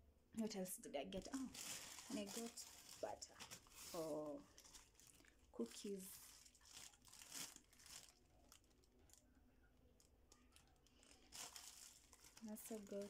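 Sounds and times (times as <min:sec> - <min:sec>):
plastic wrapping rustling: 0:01.1 - 0:09.4, 0:10.0 - 0:13.0.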